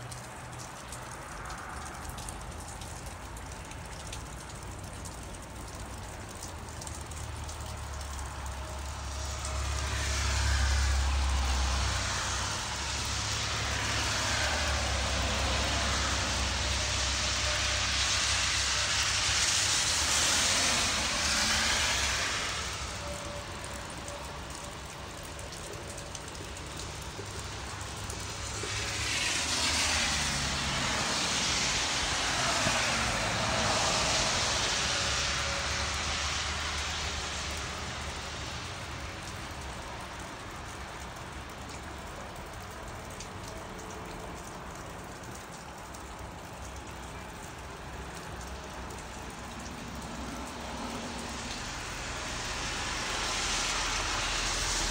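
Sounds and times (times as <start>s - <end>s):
tyres hissing on wet road: 0.0s - 54.9s.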